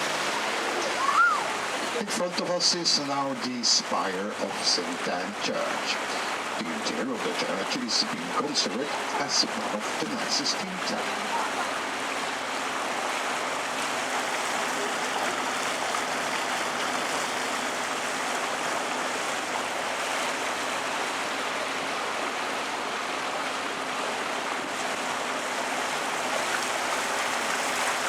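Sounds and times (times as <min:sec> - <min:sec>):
boat moving through water: 0:00.0 - 0:28.0.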